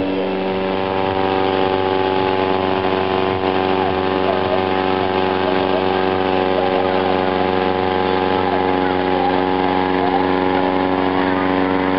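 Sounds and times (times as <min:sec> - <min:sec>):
small engine humming: 0:00.0 - 0:11.9.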